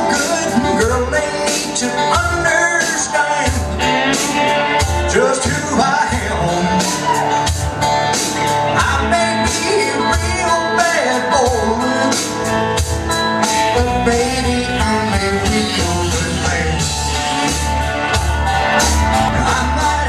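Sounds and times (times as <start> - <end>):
country-rock band playing: 0.0 - 20.0.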